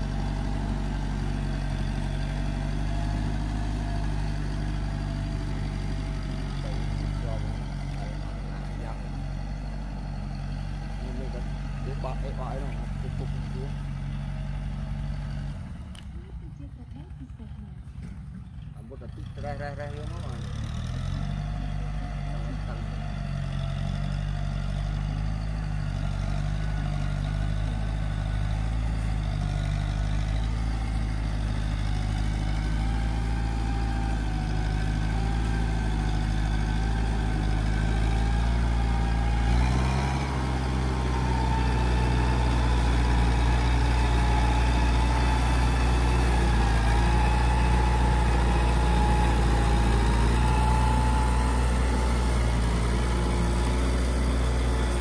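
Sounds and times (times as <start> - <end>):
harrow pulled through dry soil: 0.0 - 16.3, 17.8 - 55.0
diesel tractor engine running: 0.0 - 55.0.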